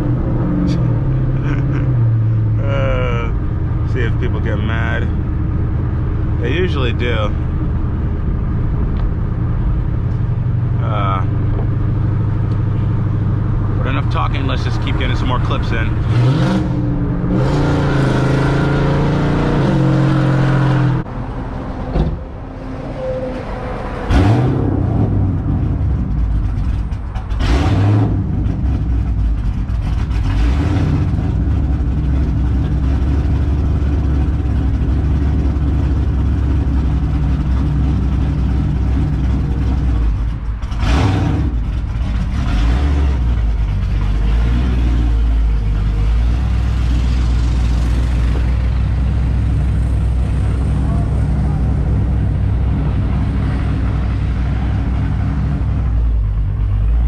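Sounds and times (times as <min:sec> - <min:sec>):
loud car engine rumbling: 0:00.0 - 0:57.0.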